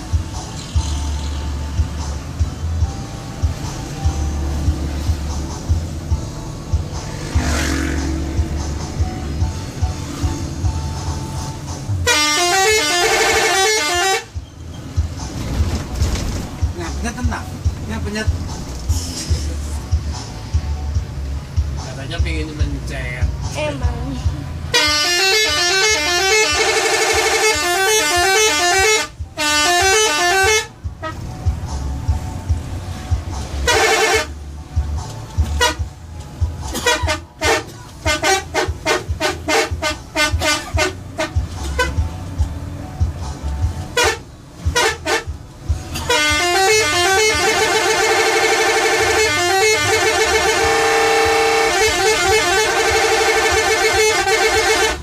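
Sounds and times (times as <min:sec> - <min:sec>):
bus multi-tone horn tune: 0:00.0 - 0:16.7, 0:23.4 - 0:55.0.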